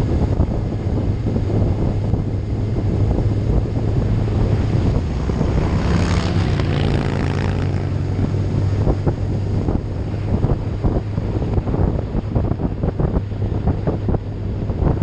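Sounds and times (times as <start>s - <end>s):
vehicle engine cruising: 0.0s - 15.0s
wind buffeting microphone: 0.0s - 15.0s.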